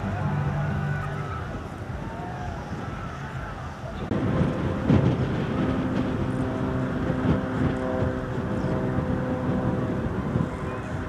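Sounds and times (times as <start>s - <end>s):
light aircraft engine droning: 0.0s - 11.0s
wind rumbling on microphone: 0.0s - 11.0s.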